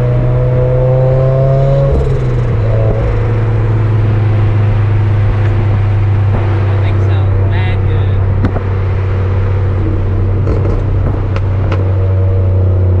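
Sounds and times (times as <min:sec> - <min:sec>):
car engine and exhaust under load: 0:00.0 - 0:13.0.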